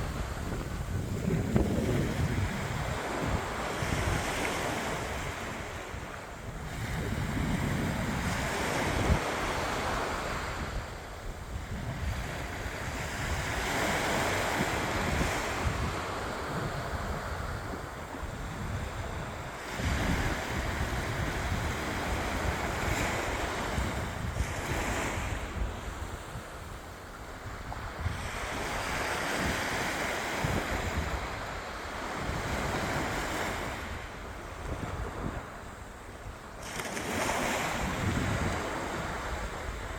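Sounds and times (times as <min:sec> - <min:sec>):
sea surf breaking ashore: 0:00.0 - 0:39.9
wind buffeting microphone: 0:00.0 - 0:39.9.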